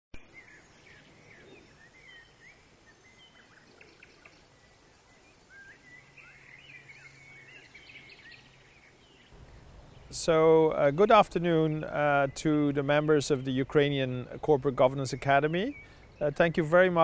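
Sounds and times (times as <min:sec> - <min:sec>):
faint low hum: 0:00.2 - 0:17.0
small birds chirping: 0:00.2 - 0:17.0
soft steady hiss: 0:00.2 - 0:17.0.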